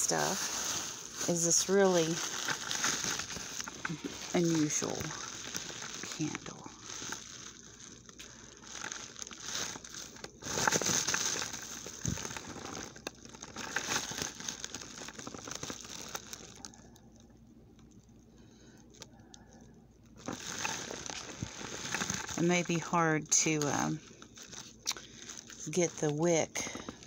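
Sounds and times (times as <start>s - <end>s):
plastic packaging crinkling: 0.0s - 27.0s.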